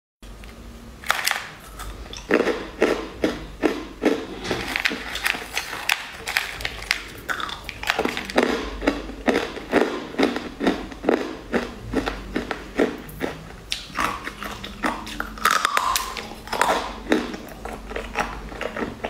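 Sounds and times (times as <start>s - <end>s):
crunching jelly candy: 1.0s - 19.0s.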